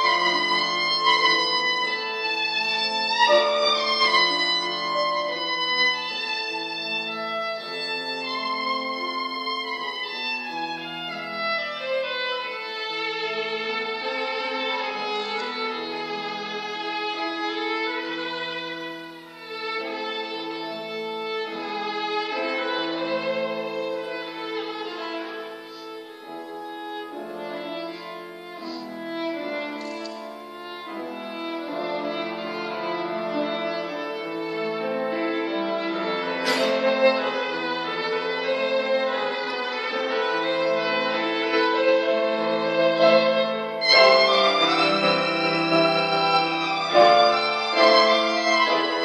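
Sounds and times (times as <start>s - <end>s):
piano and accordion chords: 0.0s - 49.0s
violin melody: 0.0s - 49.0s.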